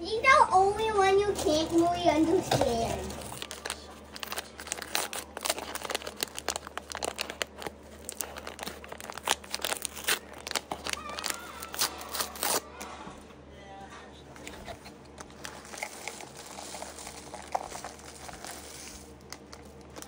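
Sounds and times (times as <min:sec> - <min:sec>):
paper bag crinkling: 0:01.3 - 0:12.6, 0:14.4 - 0:20.0.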